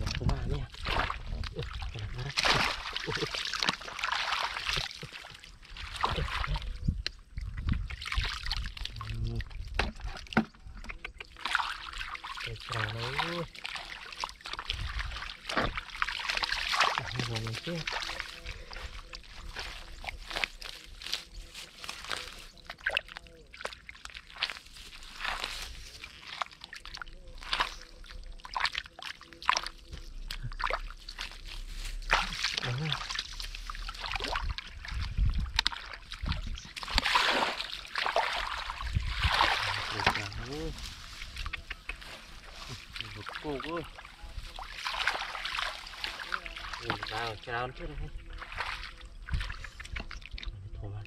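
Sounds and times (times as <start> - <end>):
muddy water sloshing: 0.0 - 51.0.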